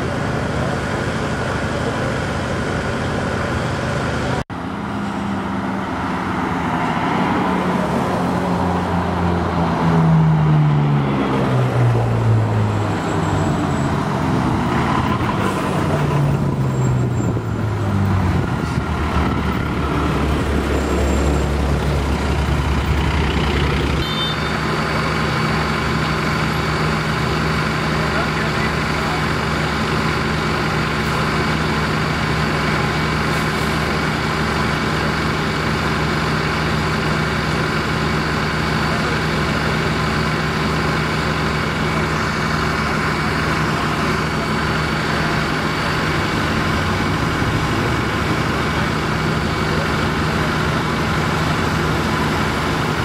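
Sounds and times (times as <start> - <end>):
heavy trucks passing by: 0.0 - 53.0
truck engine running steadily: 0.0 - 53.0.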